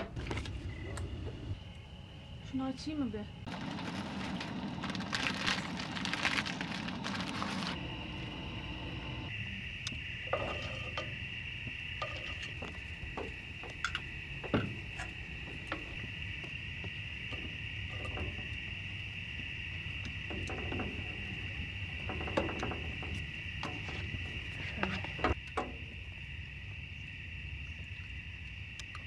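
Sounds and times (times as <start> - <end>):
insect trill: 0.1 - 29.0.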